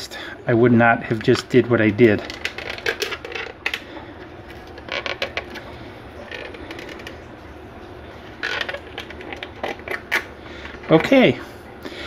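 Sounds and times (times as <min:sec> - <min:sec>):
plastic crinkling and crackling: 0:01.1 - 0:11.3.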